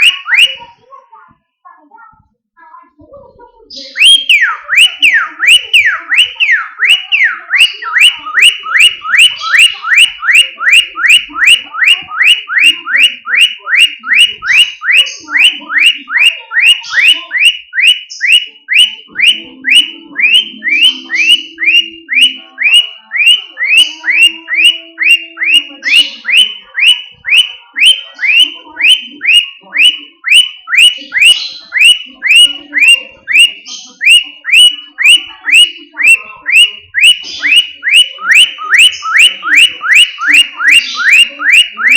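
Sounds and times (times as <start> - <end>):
bird whistling car alarm mimicry: 0.0 - 0.8, 3.7 - 41.9.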